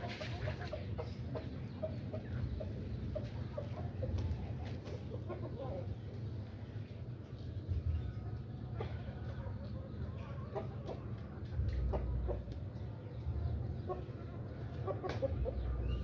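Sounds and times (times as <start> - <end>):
chicken clucking: 0.0 - 6.2, 8.8 - 16.0.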